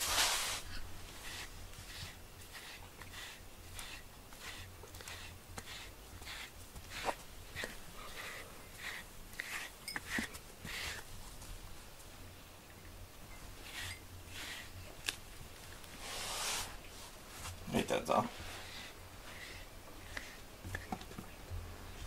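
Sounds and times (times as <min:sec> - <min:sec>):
brush strokes through fur: 0:00.0 - 0:12.4, 0:13.3 - 0:20.8.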